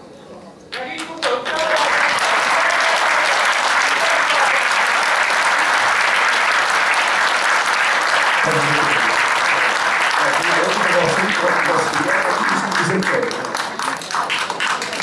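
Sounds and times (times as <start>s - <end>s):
audience applause: 0.8s - 15.0s.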